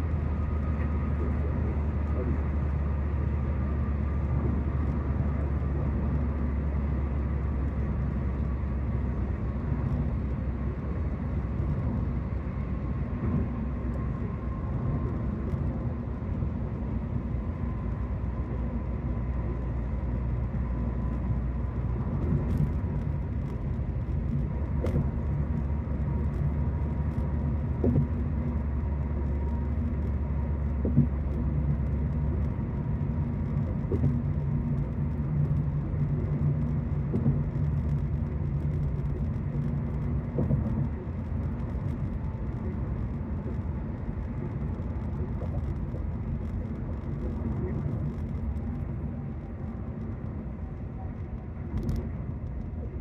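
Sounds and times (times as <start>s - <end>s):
tyre and engine rumble: 0.0s - 53.0s.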